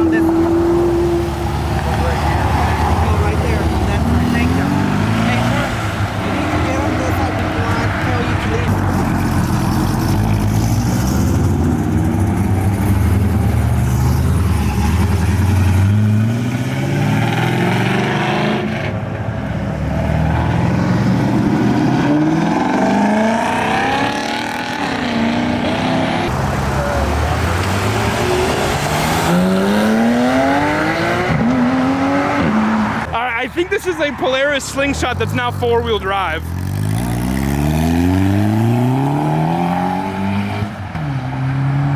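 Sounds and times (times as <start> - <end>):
car engines accelerating: 0.0 - 41.9.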